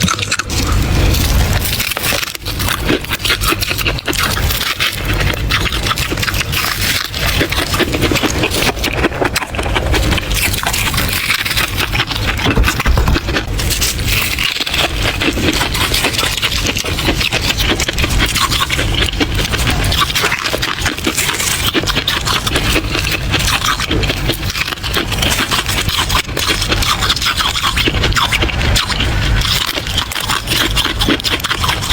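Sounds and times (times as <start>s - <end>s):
crunching frost: 0.0s - 31.9s.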